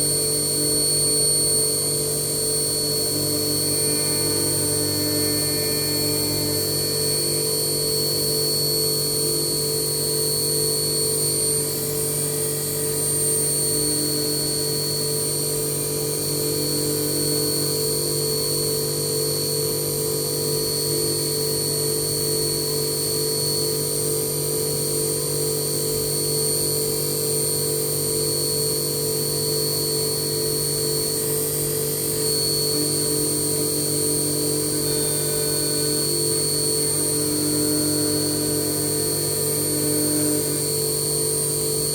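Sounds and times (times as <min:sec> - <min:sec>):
milling machine whine and hum: 0:00.0 - 0:41.9.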